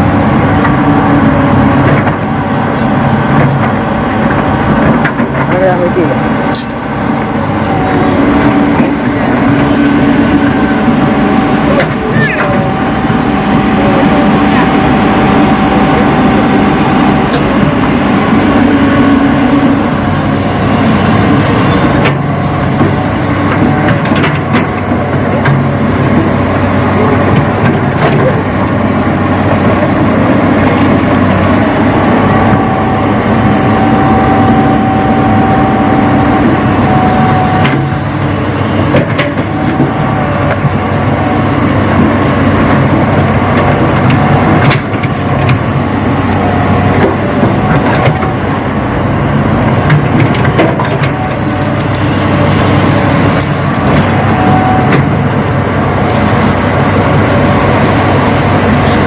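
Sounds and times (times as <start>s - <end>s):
model excavator mechanical whine: 5.8s - 59.0s.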